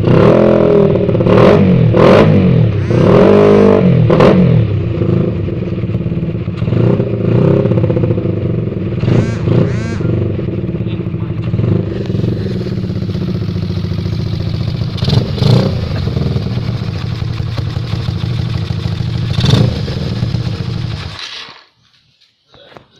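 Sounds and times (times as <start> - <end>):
motorcycle engine running: 0.0 - 21.2
motorcycle throttle blips: 2.0 - 21.0.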